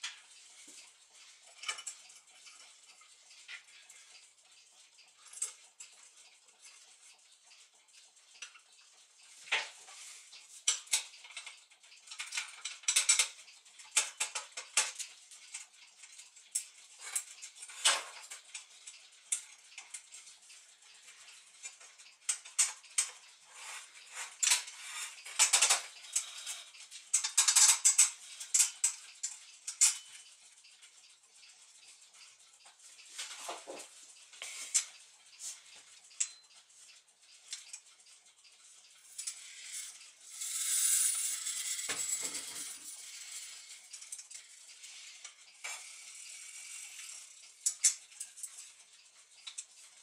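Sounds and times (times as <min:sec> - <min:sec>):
metal clock parts clicking: 0:00.0 - 0:50.0.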